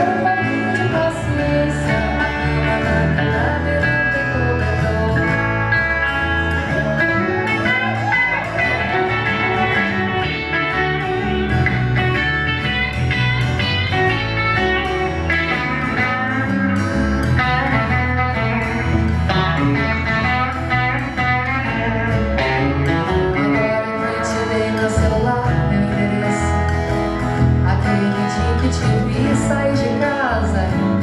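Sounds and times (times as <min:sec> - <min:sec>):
bass: 0:00.0 - 0:31.0
guitars picking a melody: 0:00.0 - 0:31.0.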